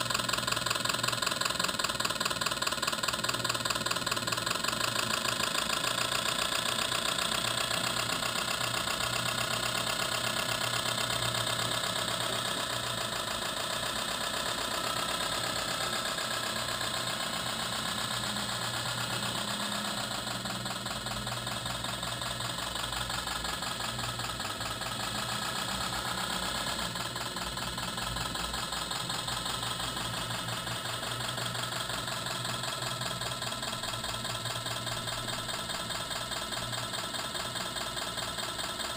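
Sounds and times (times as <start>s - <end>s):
simulated diesel engine chugging: 0.0s - 38.9s.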